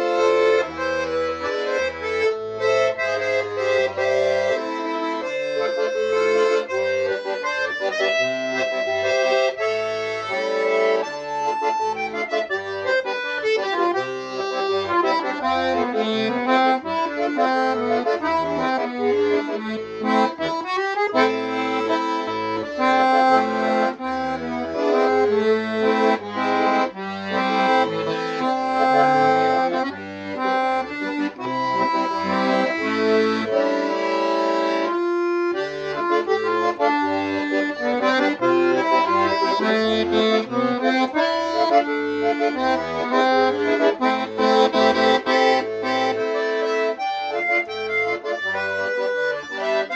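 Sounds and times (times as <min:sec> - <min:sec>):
button accordion playing: 0:00.0 - 0:49.9.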